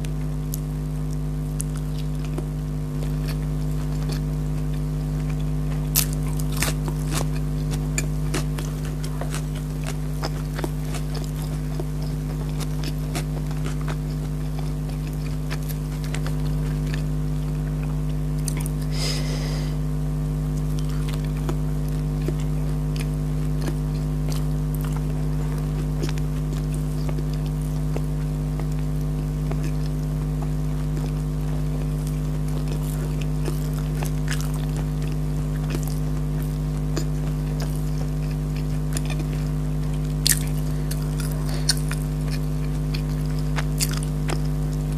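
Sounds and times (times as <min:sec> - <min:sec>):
low hum: 0:00.0 - 0:44.9
person chewing and biting: 0:00.0 - 0:44.9.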